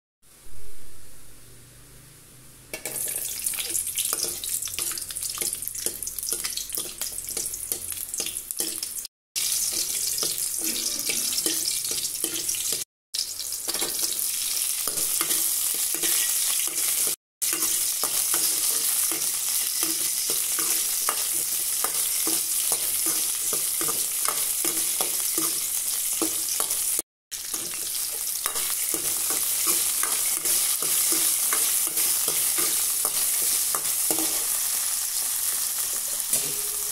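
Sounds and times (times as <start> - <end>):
food sizzling in hot oil: 2.7 - 36.9.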